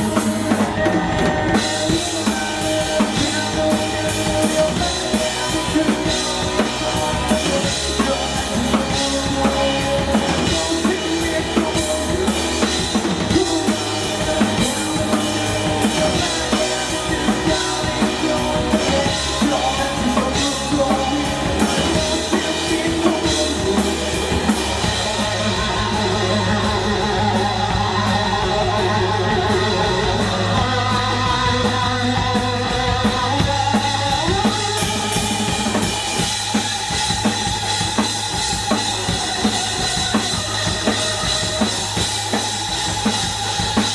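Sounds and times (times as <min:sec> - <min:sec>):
drum kit beat: 0:00.0 - 0:43.9
live rock band music: 0:00.0 - 0:43.9
wavering guitar line: 0:00.0 - 0:43.9.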